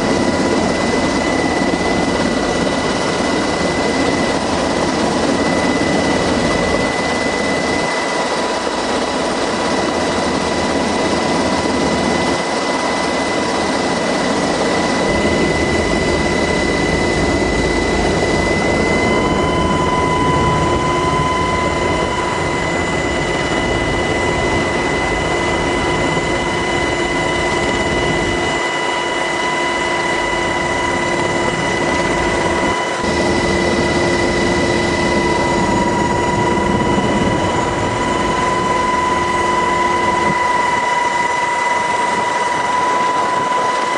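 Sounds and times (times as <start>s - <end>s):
helicopter turbine and rotor noise: 0.0s - 43.9s
high-pitched whines: 0.0s - 43.9s.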